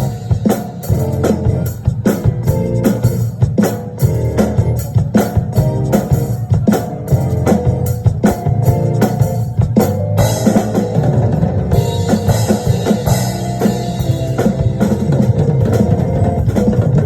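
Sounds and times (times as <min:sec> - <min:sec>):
backing music: 0:00.0 - 0:17.0
drum kit playing: 0:00.0 - 0:17.0.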